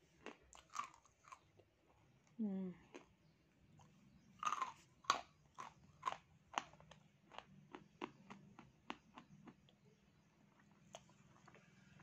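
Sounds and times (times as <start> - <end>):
chewing crunchy dry clay: 0.0 - 12.0.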